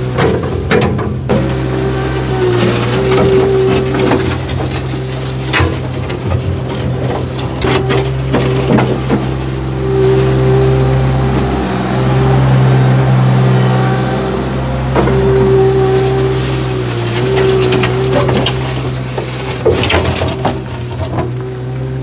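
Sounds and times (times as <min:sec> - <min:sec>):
engine whine: 0:00.0 - 0:22.0
mini loader engine running: 0:00.0 - 0:22.0.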